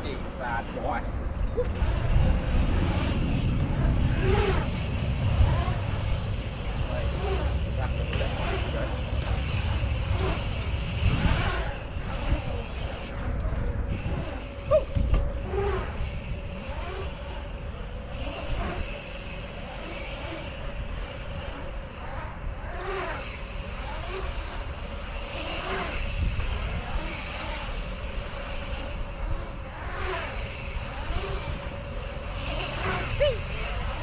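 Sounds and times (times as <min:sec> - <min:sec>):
bike tyres rolling on concrete: 0:00.0 - 0:34.0
wind rumble on microphone: 0:00.0 - 0:34.0.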